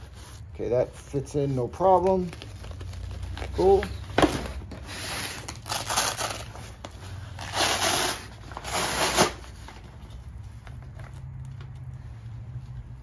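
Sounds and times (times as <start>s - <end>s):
backpack fabric rustling: 0.0s - 11.2s.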